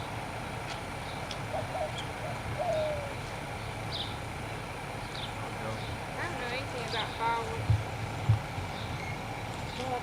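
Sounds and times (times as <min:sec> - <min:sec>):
birds chirping: 0:00.0 - 0:10.0
low background hum: 0:00.0 - 0:10.0.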